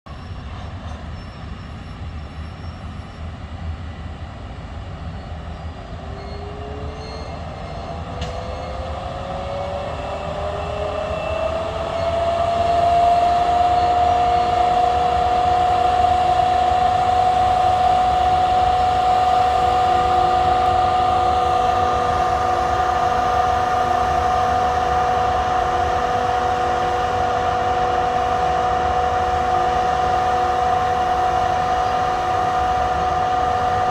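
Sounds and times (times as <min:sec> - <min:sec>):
electric locomotive whine: 0:00.1 - 0:33.9
low train rumble: 0:00.1 - 0:33.9.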